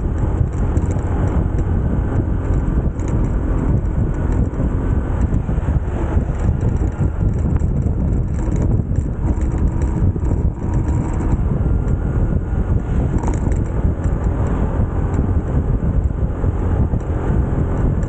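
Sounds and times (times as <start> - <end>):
motorcycle engine riding: 0.0 - 18.0
road noise: 0.0 - 18.0
wind buffeting microphone: 0.0 - 18.0.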